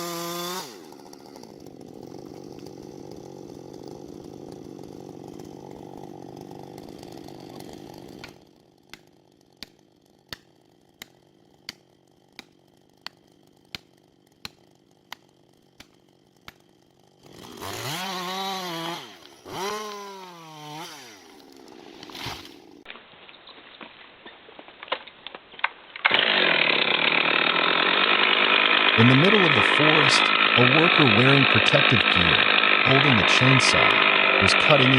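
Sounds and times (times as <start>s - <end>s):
chainsaw engine running: 0.0s - 22.9s, 26.0s - 34.9s.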